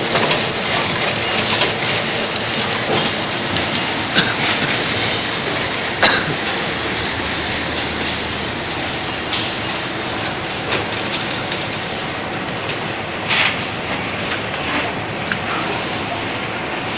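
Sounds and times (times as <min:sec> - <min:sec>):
machine mechanical clatter: 0:00.0 - 0:16.9.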